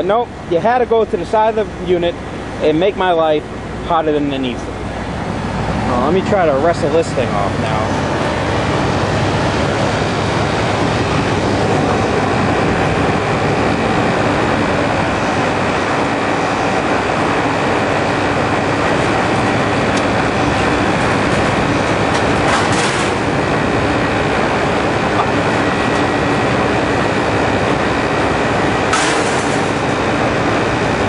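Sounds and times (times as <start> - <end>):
refrigeration machinery drone: 0.0 - 31.0.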